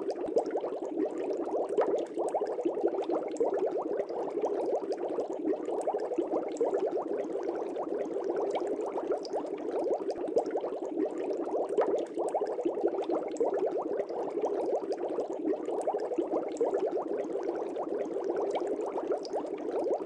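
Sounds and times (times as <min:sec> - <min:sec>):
aquarium air bubbling: 0:00.0 - 0:20.0.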